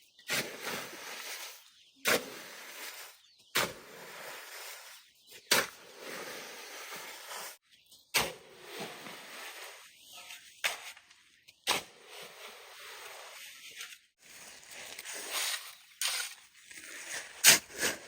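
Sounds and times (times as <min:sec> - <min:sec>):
shovel scraping wet cement: 0:00.2 - 0:18.0.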